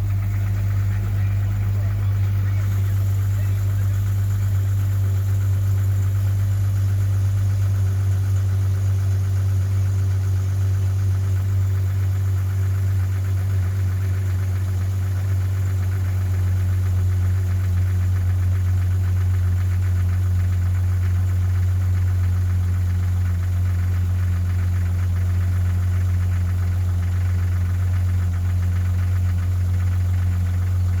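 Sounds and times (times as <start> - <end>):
car engine idling with rhythmic knock: 0.0 - 31.0.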